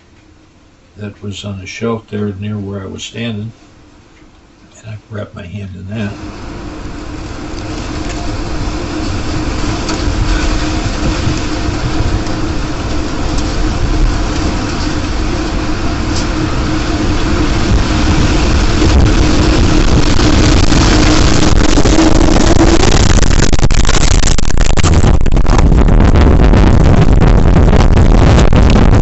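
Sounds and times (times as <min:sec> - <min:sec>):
faint steady hum: 0:00.0 - 0:29.0
tornado wind roar: 0:04.9 - 0:29.0.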